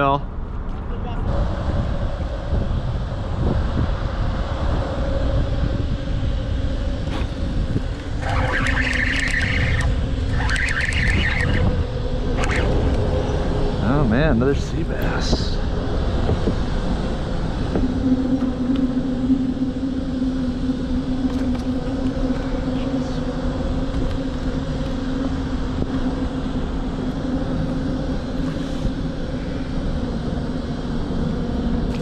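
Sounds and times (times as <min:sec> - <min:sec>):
engine droning: 0:00.0 - 0:32.0
low background rush: 0:00.0 - 0:32.0.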